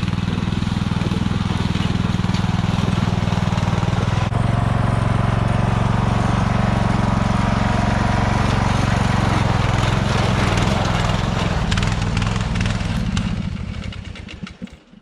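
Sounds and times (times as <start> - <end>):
riding lawn mower engine: 0.0 - 15.0.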